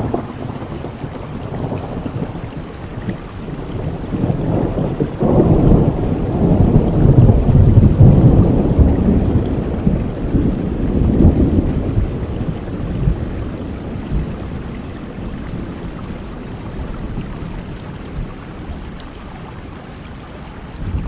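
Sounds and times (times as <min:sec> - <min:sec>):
rolling thunder: 0:00.0 - 0:19.2, 0:20.7 - 0:21.0
steady rain: 0:00.0 - 0:21.0.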